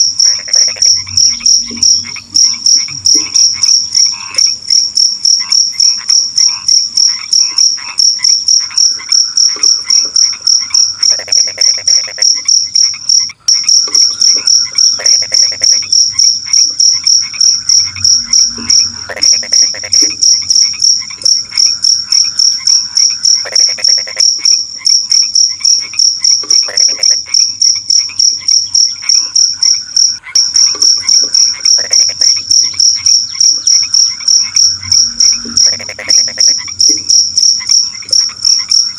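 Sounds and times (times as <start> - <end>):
cricket chirping: 0.0 - 38.9
frogs croaking: 0.0 - 38.9.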